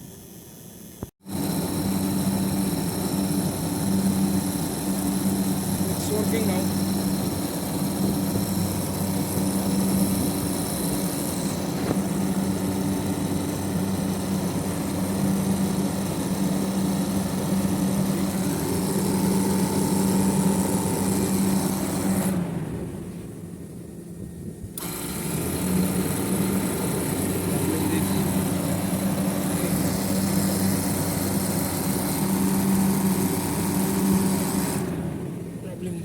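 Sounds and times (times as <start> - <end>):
air conditioner compressor hum: 0.0 - 36.0.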